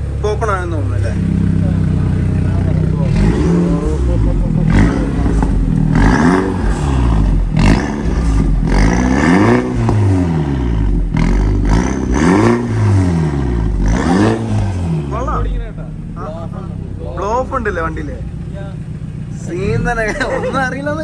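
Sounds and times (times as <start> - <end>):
car engine revving: 0.0 - 21.0
exhaust pops and crackles: 0.0 - 21.0.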